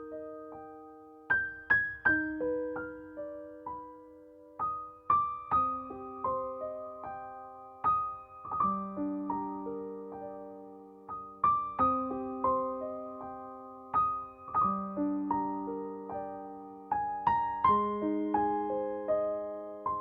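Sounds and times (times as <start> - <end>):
soft solo piano: 0.0 - 20.0.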